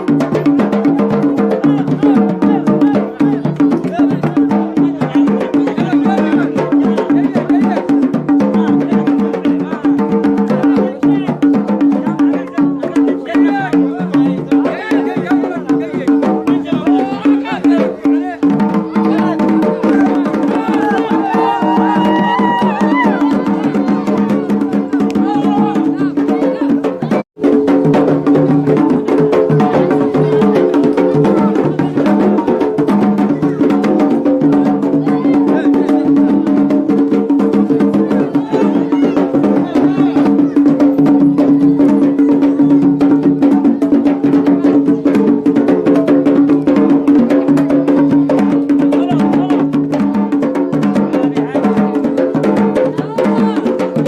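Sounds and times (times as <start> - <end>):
fast drumming: 0.0 - 54.0.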